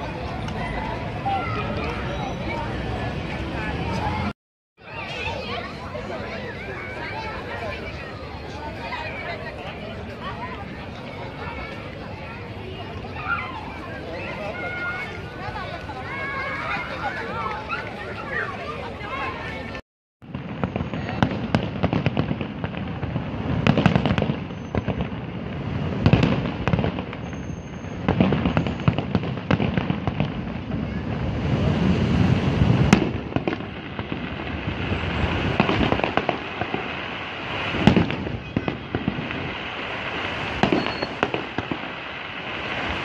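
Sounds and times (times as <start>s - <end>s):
fireworks bangs and crackling: 4.9s - 43.0s
sharp loud fireworks reports: 4.9s - 43.0s.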